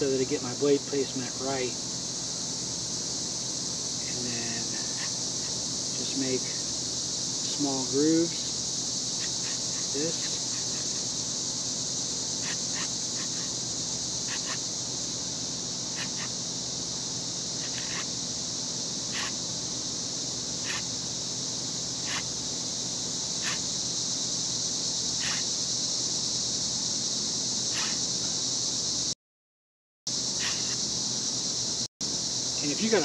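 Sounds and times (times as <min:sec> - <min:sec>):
cicada chorus: 0:00.0 - 0:29.2, 0:30.1 - 0:33.0.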